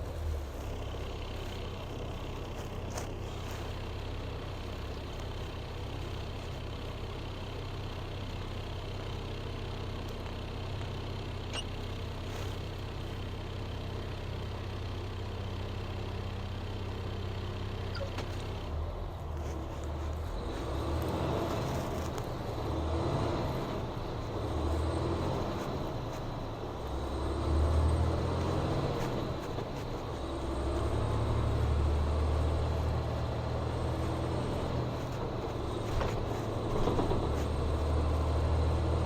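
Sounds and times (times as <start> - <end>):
road noise: 0.0 - 39.0
vehicle engine rumble: 0.0 - 39.0.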